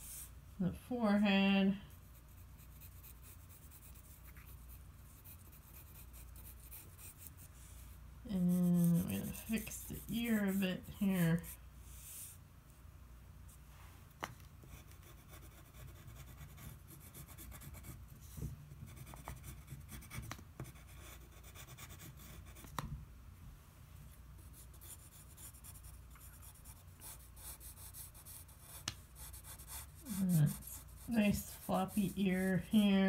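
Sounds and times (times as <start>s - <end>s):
pencil scratching on paper: 2.0s - 7.8s, 8.4s - 12.4s, 14.6s - 22.7s, 24.4s - 33.0s.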